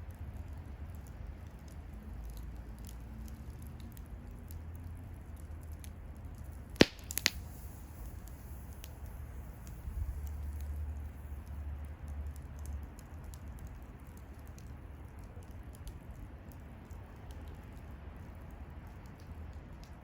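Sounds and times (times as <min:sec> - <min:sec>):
campfire crackling: 0:00.0 - 0:20.0
fire pops: 0:00.1 - 0:20.0.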